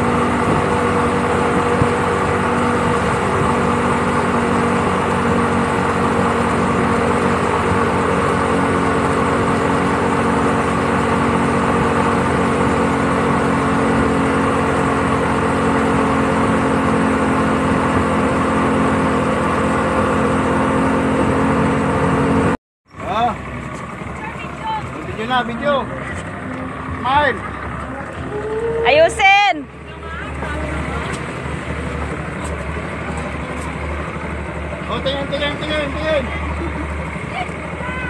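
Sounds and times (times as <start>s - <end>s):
churning boat wake: 0.0s - 38.0s
motorboat engine running: 0.0s - 38.0s.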